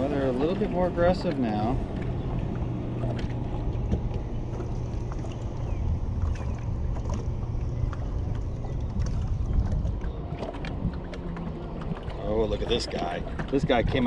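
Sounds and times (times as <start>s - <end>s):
steady low hum: 0.0s - 14.0s
wind rumbling on microphone: 0.0s - 14.0s.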